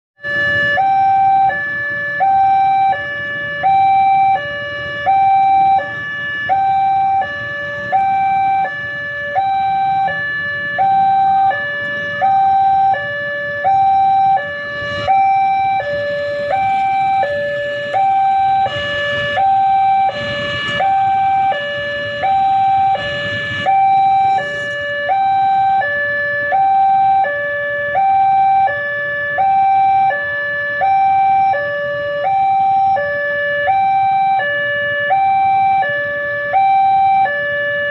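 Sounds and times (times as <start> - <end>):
two-tone emergency siren: 0.2 - 37.9.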